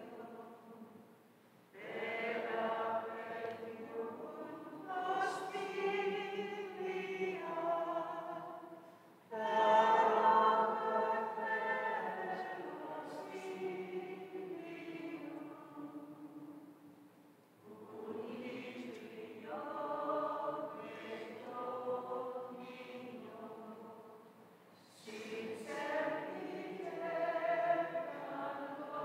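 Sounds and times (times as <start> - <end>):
group singing a hymn: 0.0 - 1.0, 1.7 - 16.9, 17.6 - 29.0.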